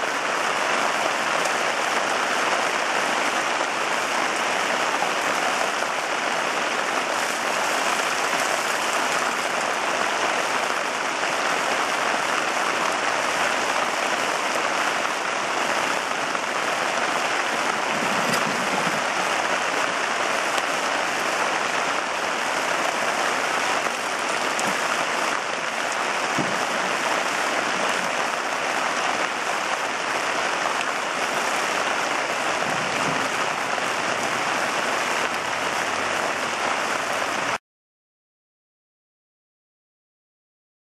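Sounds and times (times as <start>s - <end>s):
steady rain falling: 0.0s - 37.6s.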